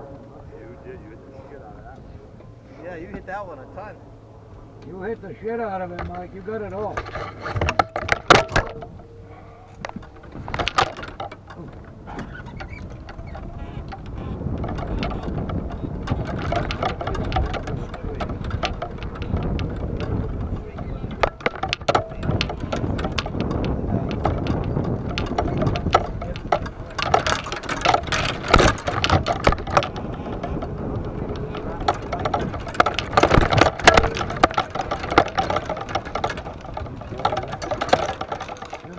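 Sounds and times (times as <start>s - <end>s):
golf cart rumble: 0.0s - 38.9s
golf clubs rattling in bag: 5.8s - 38.9s.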